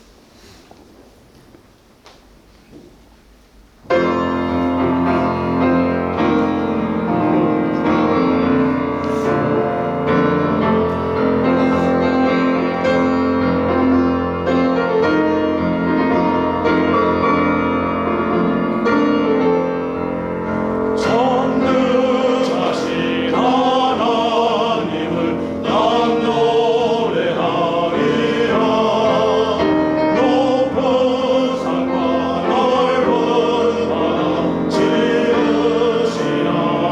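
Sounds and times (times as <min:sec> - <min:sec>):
church choir singing: 0:03.9 - 0:36.9
keyboard sustained chords: 0:03.9 - 0:36.9.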